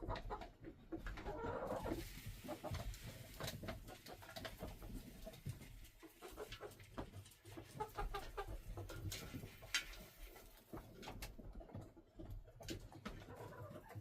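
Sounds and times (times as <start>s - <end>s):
chickens clucking softly: 0.0s - 14.0s.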